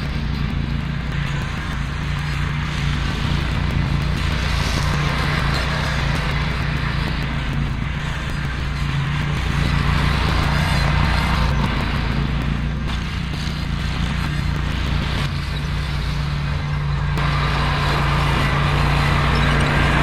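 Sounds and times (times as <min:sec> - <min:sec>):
broad rushing noise: 0:00.0 - 0:20.0
tractor engine running: 0:00.0 - 0:20.0.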